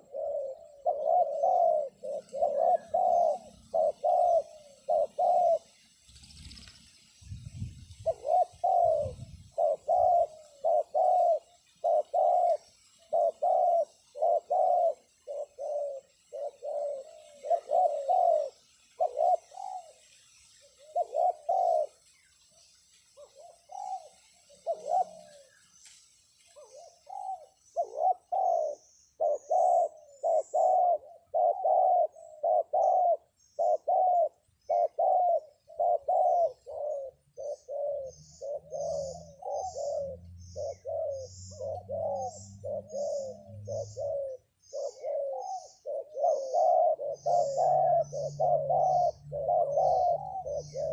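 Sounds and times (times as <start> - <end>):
dove cooing: 0.0 - 6.8, 7.5 - 22.4, 23.2 - 25.9, 26.5 - 50.9
small birds chirping: 0.0 - 50.9.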